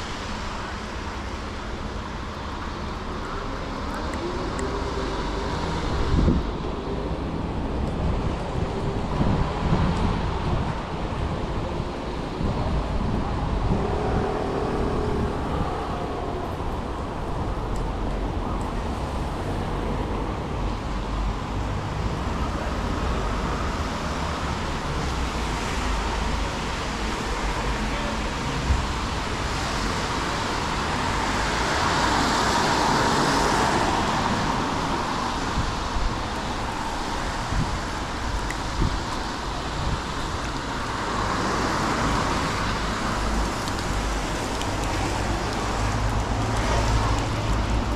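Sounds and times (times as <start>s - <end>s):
rain: 0.0s - 47.9s
traffic on a wet road: 0.0s - 47.9s.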